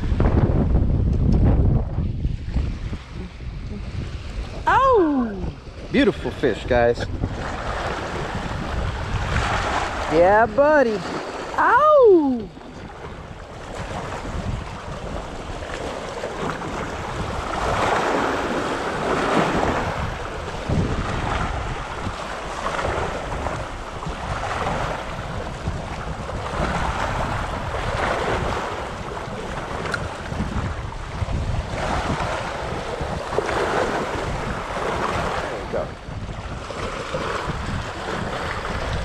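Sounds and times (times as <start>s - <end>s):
wind rumbling on microphone: 0.0s - 39.0s
water splashing against shoreline: 2.4s - 39.0s.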